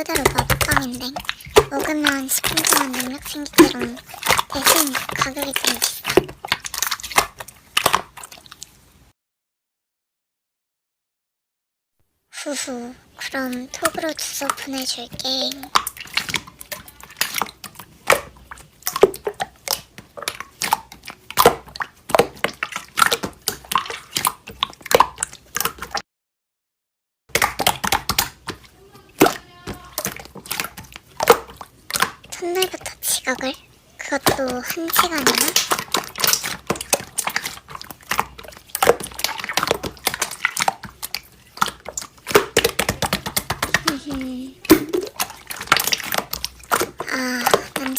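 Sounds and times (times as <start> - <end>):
slime being squished: 0.0 - 8.8, 13.2 - 26.0, 27.3 - 47.9.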